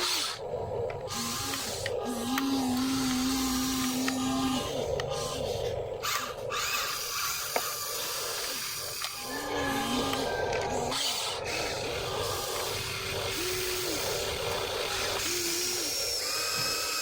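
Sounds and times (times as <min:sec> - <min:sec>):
small electric motors whirring: 0:00.0 - 0:17.0.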